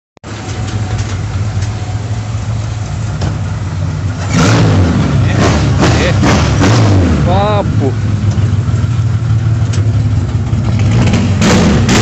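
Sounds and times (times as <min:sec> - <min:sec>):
car engine deep rumble: 0:00.2 - 0:12.0.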